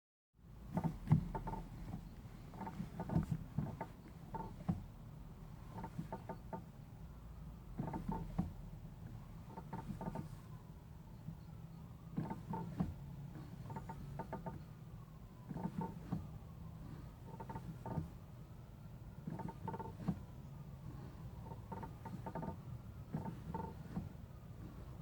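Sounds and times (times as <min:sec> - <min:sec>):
clutch pedal creaking and clicking: 0:00.6 - 0:06.8, 0:07.6 - 0:18.3, 0:19.1 - 0:25.0.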